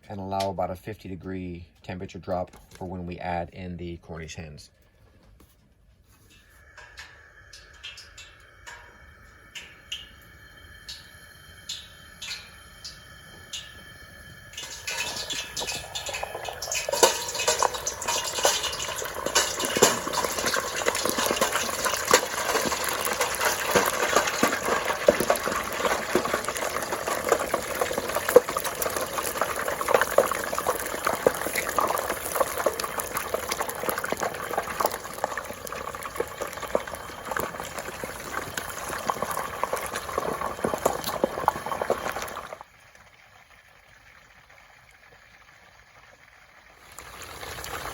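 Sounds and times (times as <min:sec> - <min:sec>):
oil sizzling and bubbling: 0:06.0 - 0:47.9.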